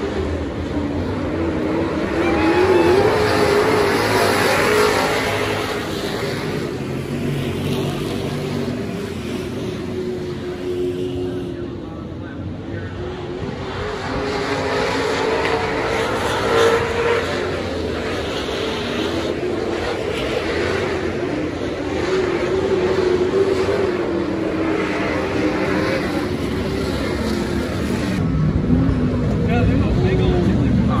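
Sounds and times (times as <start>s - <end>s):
race car engines: 0.0s - 31.0s.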